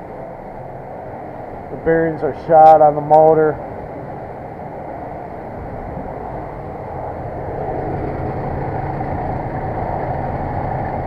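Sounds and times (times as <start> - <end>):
dehumidifier blower motor drone: 0.0 - 11.0.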